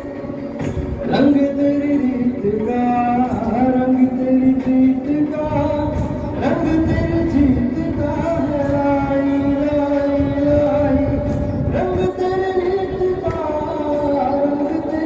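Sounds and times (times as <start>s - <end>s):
karaoke backing track: 0.0s - 15.0s
man singing into a microphone: 0.0s - 15.0s.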